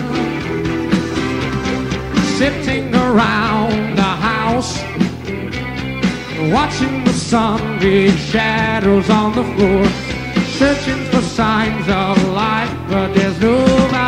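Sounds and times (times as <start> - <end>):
person singing lead vocal: 0.0 - 1.4, 2.0 - 5.2, 6.2 - 14.0
drums: 0.0 - 14.0
electric guitar: 0.0 - 14.0.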